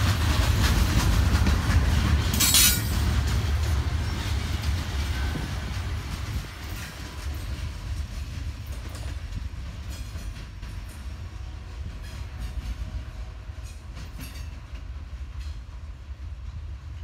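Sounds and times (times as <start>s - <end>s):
wheels clicking over rail joints: 0.0s - 15.7s
train rumbling on rails: 0.0s - 17.0s.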